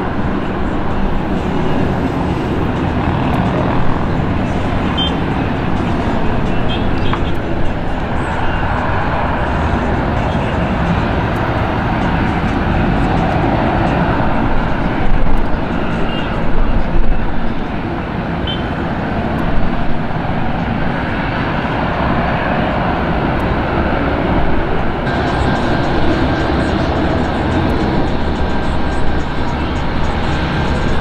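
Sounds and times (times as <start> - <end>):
jet engines taxiing: 0.0 - 31.0.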